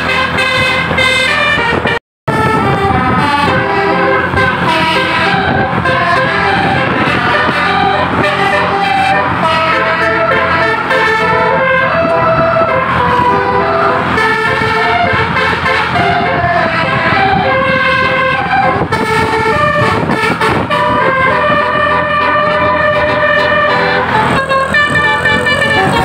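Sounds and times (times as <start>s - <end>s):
multi-tone horn playing a melody: 0.0s - 26.0s.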